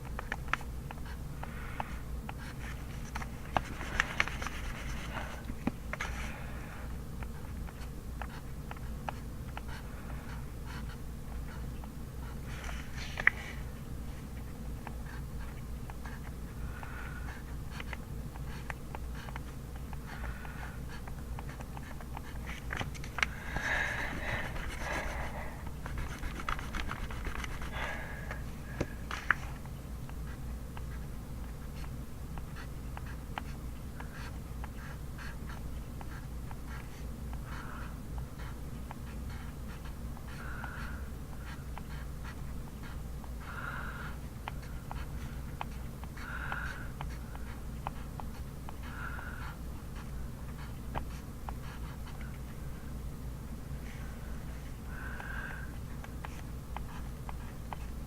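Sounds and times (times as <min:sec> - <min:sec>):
pencil writing on paper: 0:00.0 - 0:52.8, 0:53.8 - 0:58.0
steady low hum: 0:00.0 - 0:58.0.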